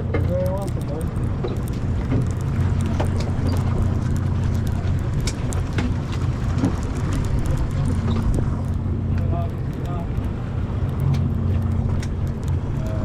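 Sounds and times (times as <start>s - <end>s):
boat engine drone: 0.0s - 13.0s
gear clicking and knocking: 0.0s - 13.0s.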